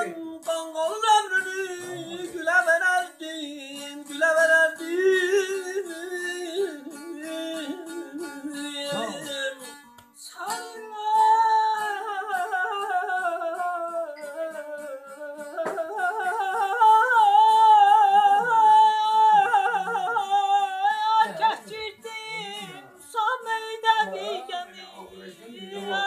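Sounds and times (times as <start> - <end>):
man singing wordless trills: 0.0 - 26.0.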